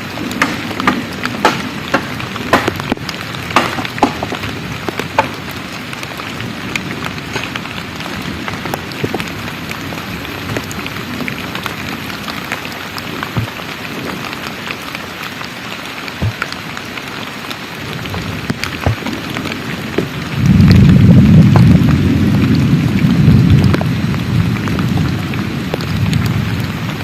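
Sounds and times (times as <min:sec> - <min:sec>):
heavy rain falling: 0:00.0 - 0:27.0
raindrops hitting a surface: 0:00.0 - 0:27.0.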